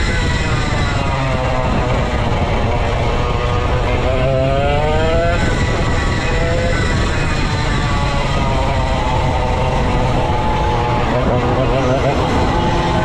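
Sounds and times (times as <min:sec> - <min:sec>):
go-kart engine racing: 0:00.0 - 0:13.0.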